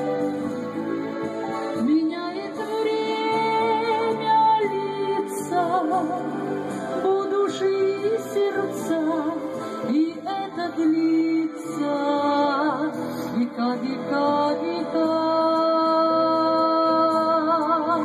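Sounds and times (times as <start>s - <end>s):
instrumental accompaniment: 0.0s - 18.0s
woman singing slow melody: 1.8s - 18.0s.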